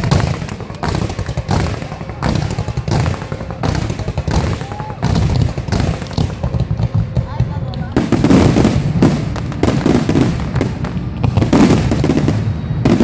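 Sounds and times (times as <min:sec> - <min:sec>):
firework bursts: 0:00.0 - 0:13.0
firework crackling: 0:00.0 - 0:13.0.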